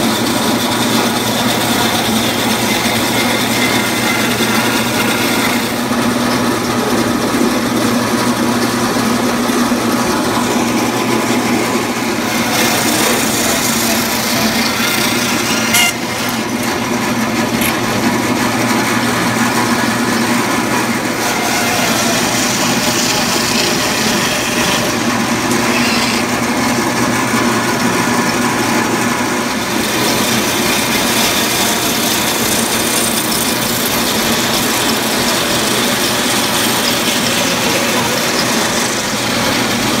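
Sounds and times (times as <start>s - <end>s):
band saw cutting meat and bone: 0.0s - 40.0s.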